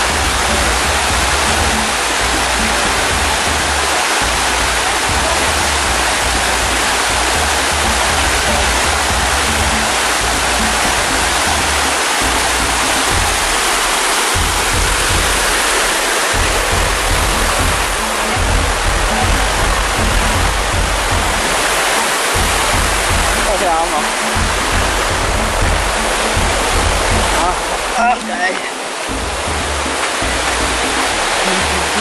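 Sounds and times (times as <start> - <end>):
deep rumble: 0.0 - 28.0
creek rushing over boulders: 0.0 - 32.0.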